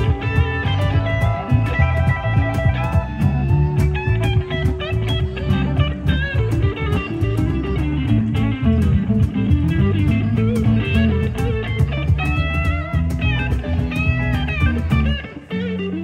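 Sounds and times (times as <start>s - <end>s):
steady drum beat: 0.0s - 15.3s
bass guitar: 0.0s - 16.0s
electric guitar lead: 0.0s - 16.0s.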